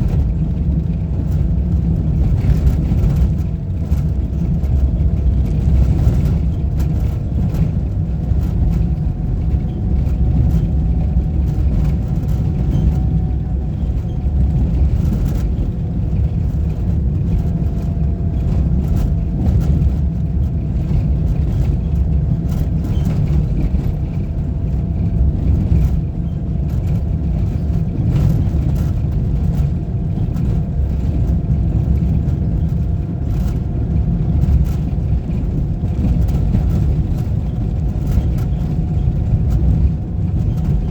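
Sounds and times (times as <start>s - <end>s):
vehicle engine and road rumble: 0.0s - 40.9s.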